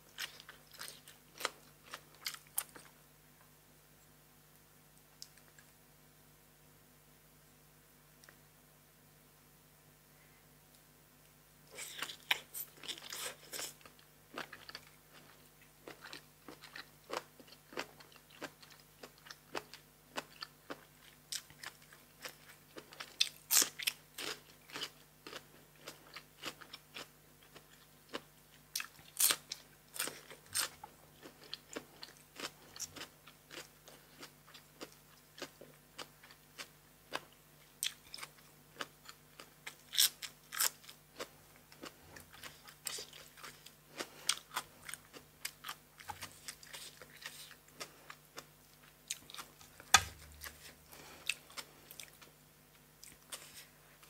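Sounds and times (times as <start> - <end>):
person chewing crisp food: 0.1 - 3.0, 11.7 - 54.0.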